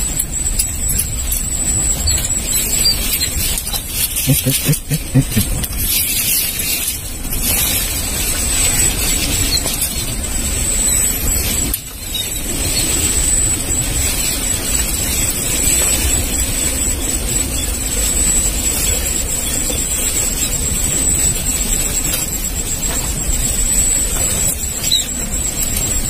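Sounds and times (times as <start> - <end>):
thin steady high tone: 0.0 - 26.0
vehicle rumble: 0.0 - 26.0.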